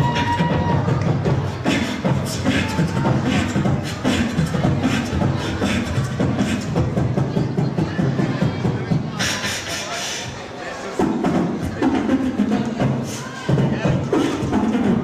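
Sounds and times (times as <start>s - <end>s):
beatboxing: 0.0s - 15.0s.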